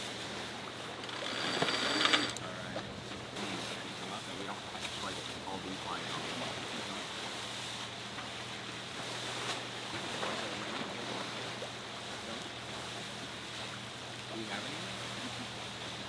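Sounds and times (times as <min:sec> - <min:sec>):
water washing around boat: 0:00.0 - 0:16.0
wind: 0:00.0 - 0:16.0.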